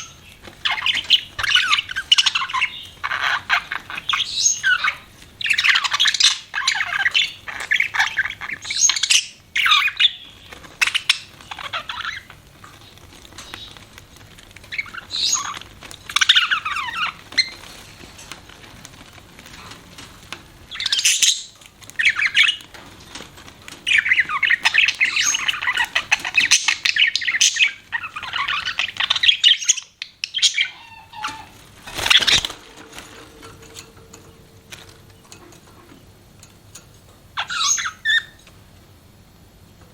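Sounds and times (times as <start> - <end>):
budgerigars chirping and warbling: 0.0 - 18.0, 20.6 - 36.1, 37.3 - 38.5.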